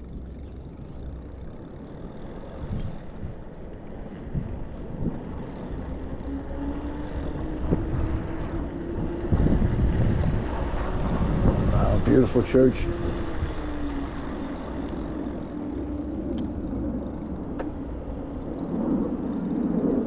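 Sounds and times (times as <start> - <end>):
road noise from bike: 0.0 - 20.0
wind on microphone: 0.0 - 20.0.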